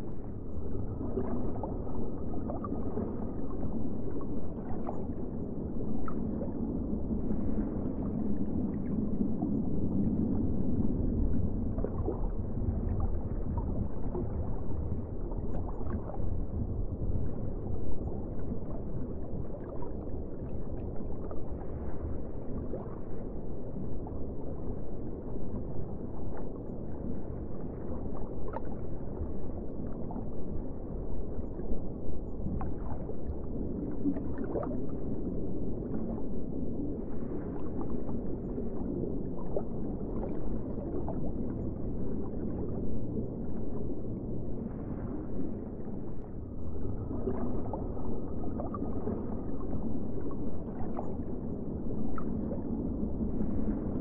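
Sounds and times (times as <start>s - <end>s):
underwater rush of water: 0.0s - 54.0s.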